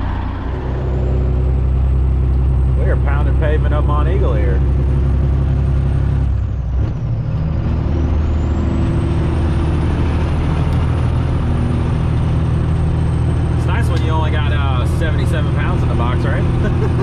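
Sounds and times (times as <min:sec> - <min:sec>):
diesel truck engine pulling uphill: 0:00.0 - 0:17.0.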